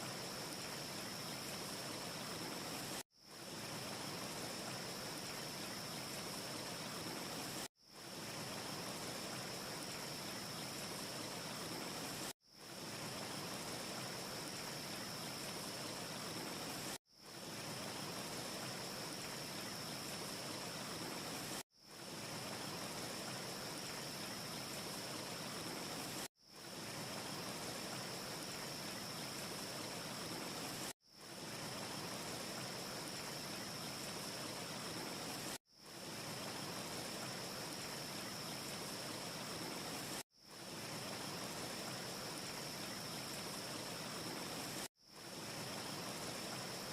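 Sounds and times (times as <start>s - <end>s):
faint high hiss: 0.0s - 46.9s.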